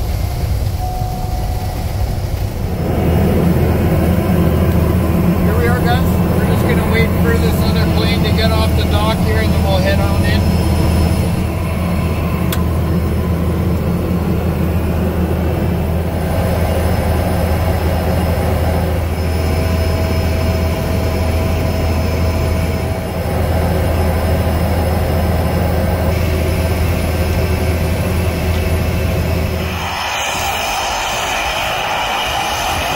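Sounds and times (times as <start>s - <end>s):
faint high whine: 0.0s - 32.9s
propeller plane engine drone: 0.0s - 32.9s.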